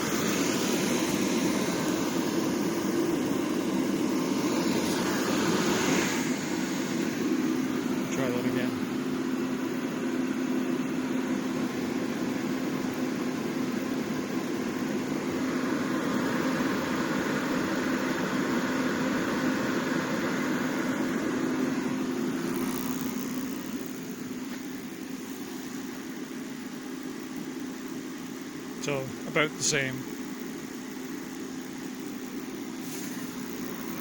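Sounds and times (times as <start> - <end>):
forced-air heater humming: 0.0 - 34.0.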